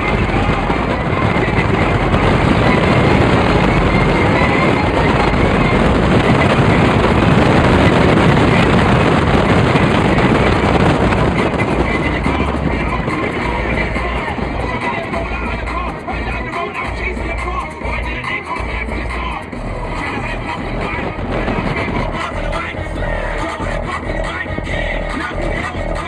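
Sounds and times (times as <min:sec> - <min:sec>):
wind and road noise inside car: 0:00.0 - 0:26.0.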